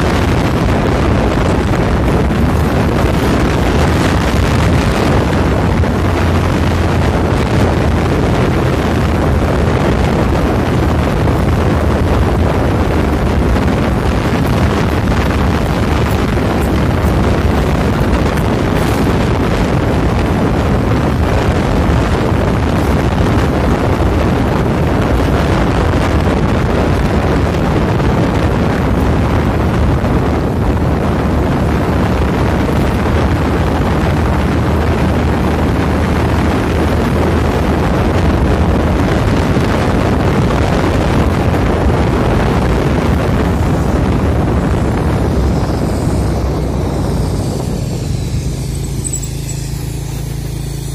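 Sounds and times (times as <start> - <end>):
vehicle engine and tyres: 0.0 - 50.9
wind rushing over microphone: 0.0 - 50.9.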